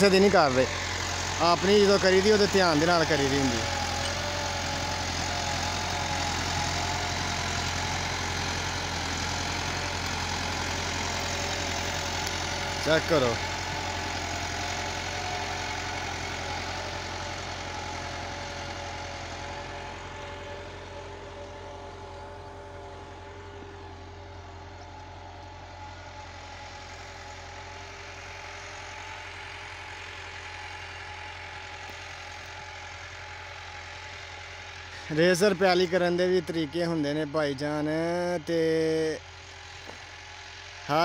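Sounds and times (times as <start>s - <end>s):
tractor diesel engine under load: 0.0s - 41.0s.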